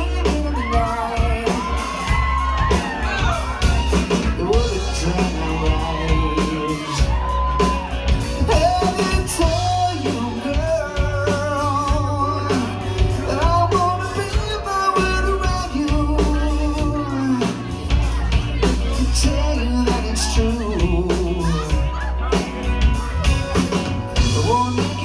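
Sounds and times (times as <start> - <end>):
heavy bass line: 0.0 - 25.0
live rock band playing: 0.0 - 25.0
person singing lead vocal: 0.0 - 25.0.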